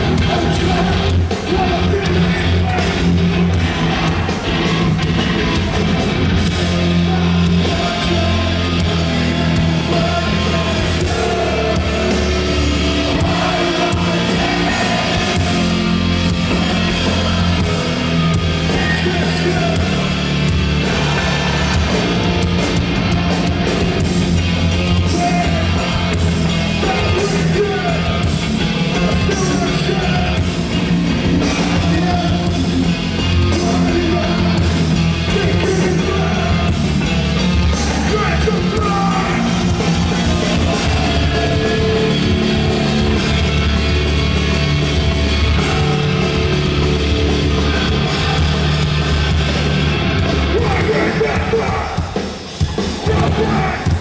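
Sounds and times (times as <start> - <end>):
live metal band playing: 0.0 - 54.0
shouted and sung vocals: 0.0 - 54.0.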